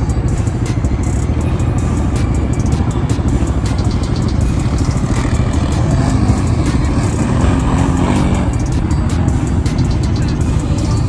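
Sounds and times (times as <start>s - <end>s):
atv engines revving: 0.0s - 11.0s.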